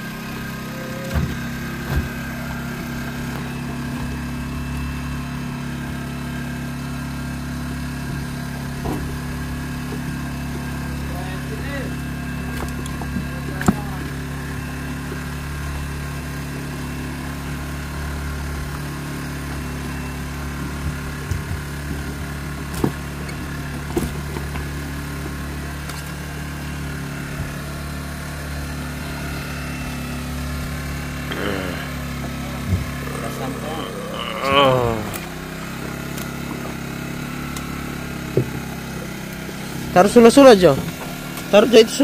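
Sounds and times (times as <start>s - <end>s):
small engine humming: 0.0s - 42.0s.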